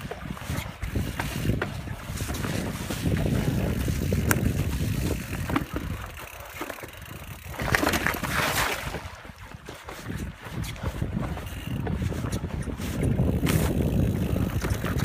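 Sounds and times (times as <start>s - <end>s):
wind rushing over microphone: 0.0s - 6.3s, 6.9s - 15.0s
bike rattling clicks: 0.0s - 9.0s, 9.7s - 15.0s
tyres rumbling on dirt trail: 0.0s - 15.0s.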